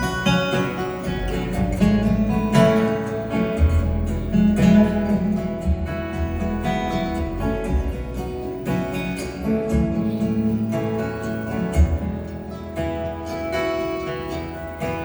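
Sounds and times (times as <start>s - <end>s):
bass: 0.0s - 15.0s
plucked string lines: 0.0s - 15.0s
strummed acoustic guitar: 0.0s - 15.0s.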